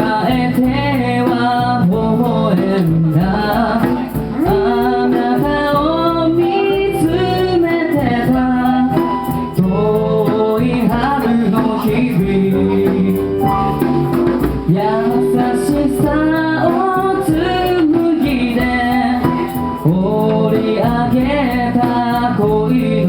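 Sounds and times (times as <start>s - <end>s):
live band playing pop ballad: 0.0s - 23.0s.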